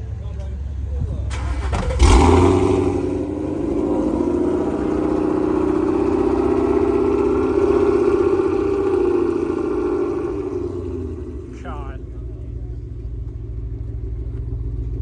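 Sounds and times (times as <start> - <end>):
car engine blipping: 0.0 - 15.0
car engine low rumble: 0.0 - 15.0.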